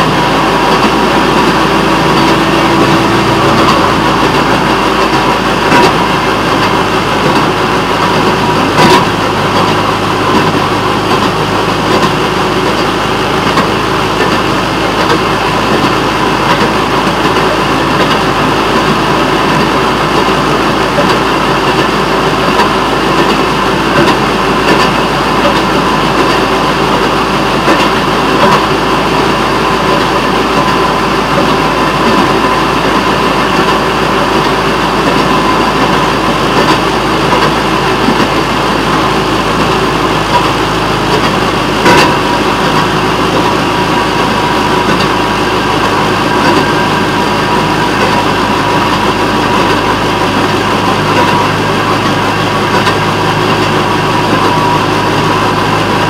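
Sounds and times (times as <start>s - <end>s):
rail motorcar engine: 0.0s - 56.0s
steel wheels on rails: 0.0s - 56.0s.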